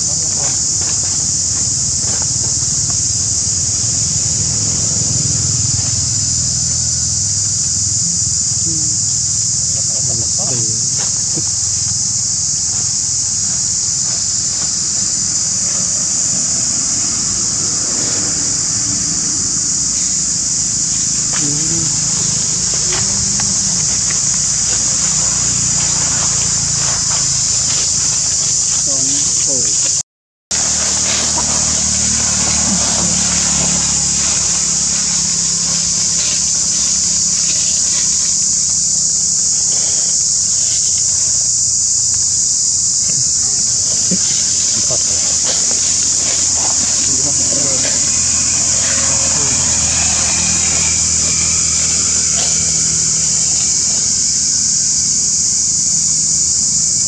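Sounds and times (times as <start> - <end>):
low engine hum: 0.0 - 29.9, 30.5 - 56.9
cicadas droning: 0.0 - 57.0
high-pitched insect chorus: 0.0 - 57.0.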